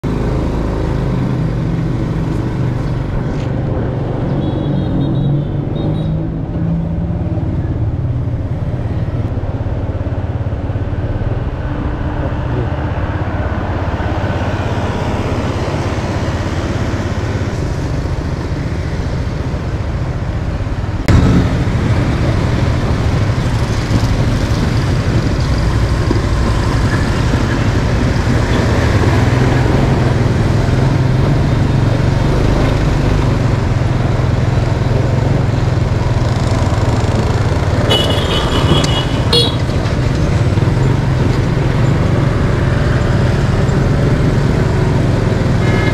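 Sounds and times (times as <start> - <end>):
road noise: 0.0 - 45.9.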